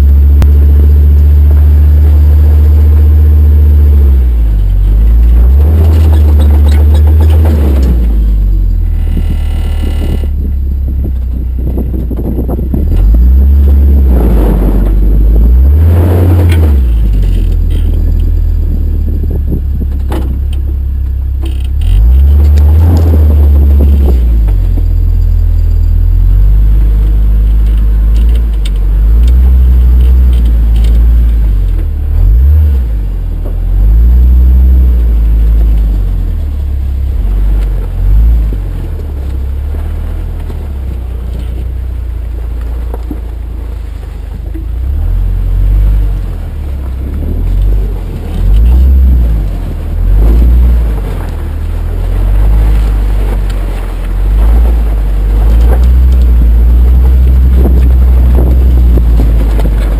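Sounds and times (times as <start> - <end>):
off-road vehicle engine rumbling: 0.0 - 59.9.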